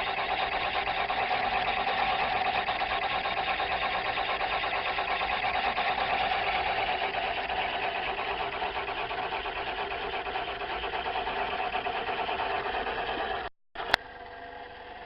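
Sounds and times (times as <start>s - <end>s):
metal lathe whining: 0.0s - 15.0s.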